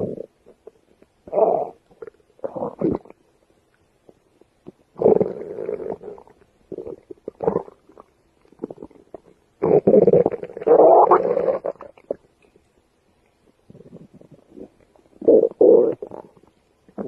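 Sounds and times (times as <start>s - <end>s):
stomach growling: 0.0s - 3.2s, 4.1s - 12.6s, 13.6s - 17.0s.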